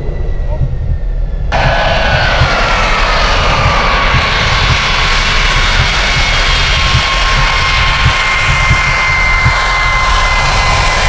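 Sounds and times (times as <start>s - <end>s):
jet engines high whine: 0.0s - 11.0s
jet engines low rumble: 0.0s - 11.0s.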